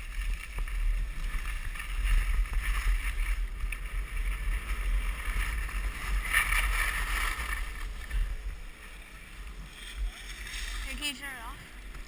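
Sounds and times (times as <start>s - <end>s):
skis scraping over snow: 0.0s - 12.0s
wind rumbling on microphone: 0.0s - 12.0s.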